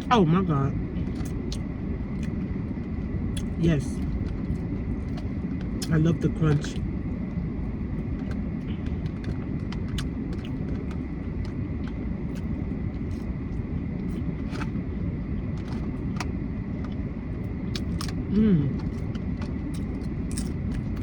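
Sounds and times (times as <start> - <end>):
car cabin low rumble: 0.0 - 21.0.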